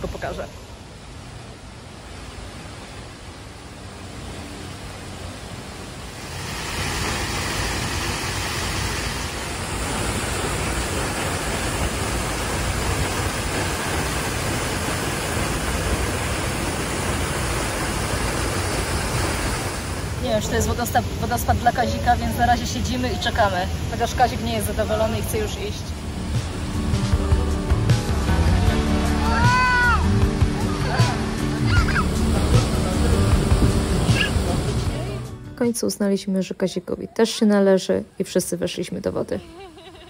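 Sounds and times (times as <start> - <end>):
waterfall rushing: 0.0 - 35.4.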